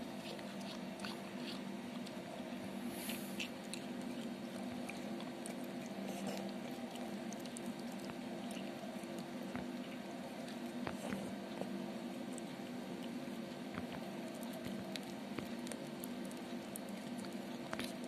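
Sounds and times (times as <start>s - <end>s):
cat chewing and licking: 0.0s - 18.0s
steady low hum: 0.0s - 18.0s.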